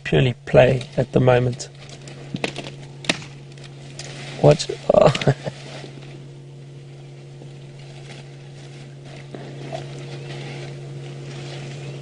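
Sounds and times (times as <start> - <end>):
faint crackles: 0.5 - 12.0.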